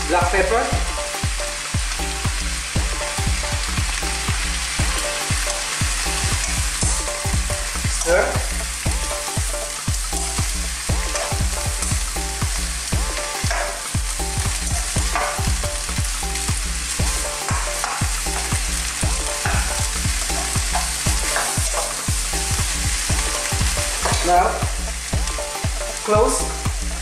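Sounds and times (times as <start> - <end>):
vegetables sizzling in a wok: 0.0 - 27.0.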